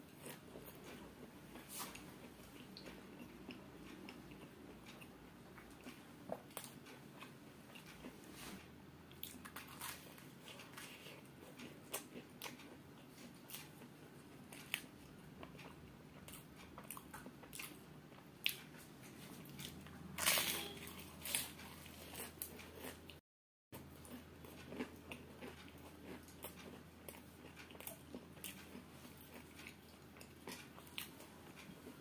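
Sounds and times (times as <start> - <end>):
chewing crunchy fried pastry: 0.0 - 23.2, 23.8 - 32.0.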